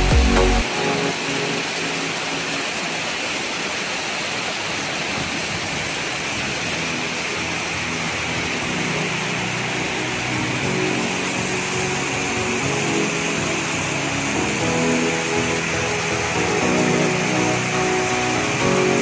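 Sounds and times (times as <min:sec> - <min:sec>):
waterfall and rushing river: 0:00.0 - 0:19.0.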